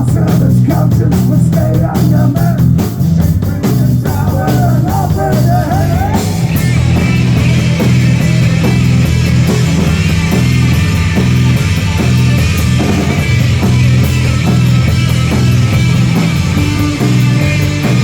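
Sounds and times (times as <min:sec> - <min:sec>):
heavy rock band playing: 0:00.0 - 0:18.0.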